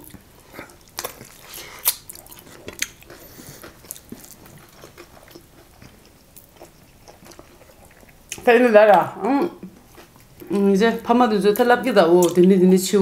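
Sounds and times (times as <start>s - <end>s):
people chewing: 0.0s - 13.0s.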